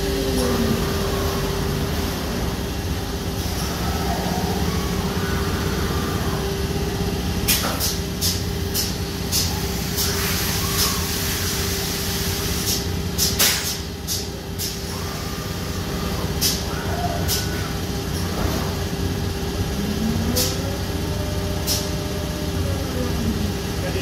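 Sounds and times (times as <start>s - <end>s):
cnc machine spindle hum: 0.0s - 11.8s, 13.9s - 24.0s
whining axis motors: 0.0s - 24.0s.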